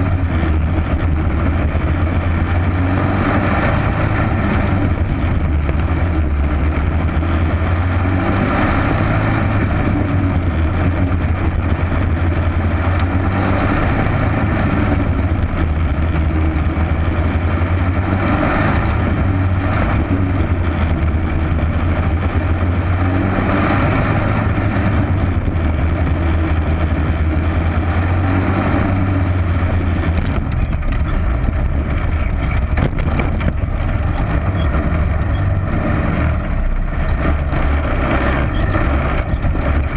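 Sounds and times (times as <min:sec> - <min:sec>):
race car engine running hard: 0:00.0 - 0:39.9
road noise: 0:00.0 - 0:39.9
wind noise: 0:00.0 - 0:39.9.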